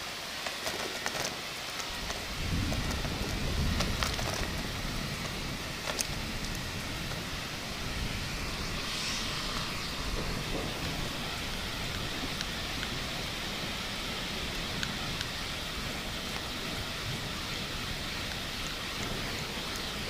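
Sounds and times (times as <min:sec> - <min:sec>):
heavy rain: 0:00.0 - 0:20.0
thunder rumble: 0:01.9 - 0:20.0.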